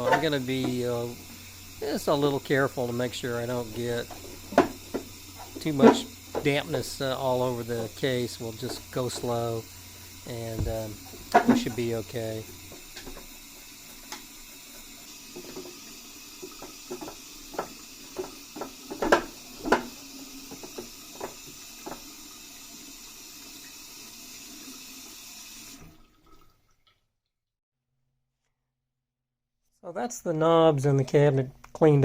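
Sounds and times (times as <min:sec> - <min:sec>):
tap water running: 0:00.0 - 0:27.0.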